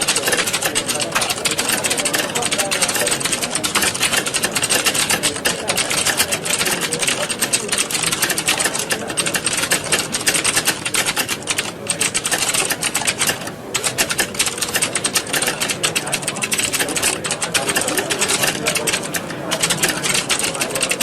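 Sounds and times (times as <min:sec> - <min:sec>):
keyboards typing clatter: 0:00.0 - 0:21.0.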